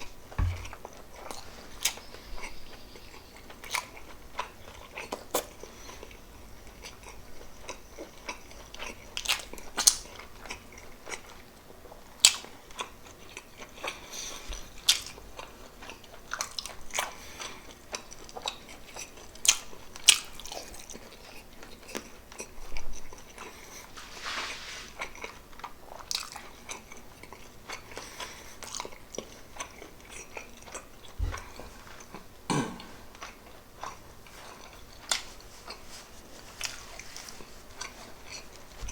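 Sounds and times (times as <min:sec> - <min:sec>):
person chewing food: 0:03.4 - 0:24.0, 0:24.9 - 0:38.9.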